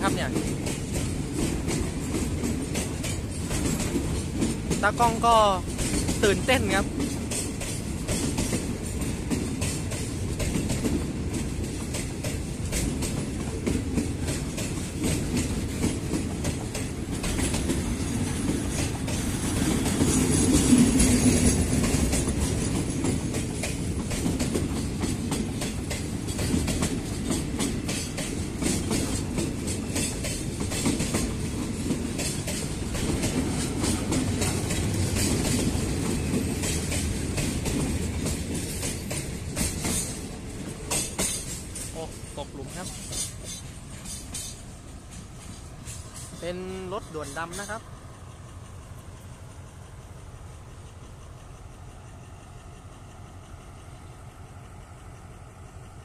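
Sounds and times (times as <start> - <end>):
train wheels clicking over rail joints: 0.1 - 56.0.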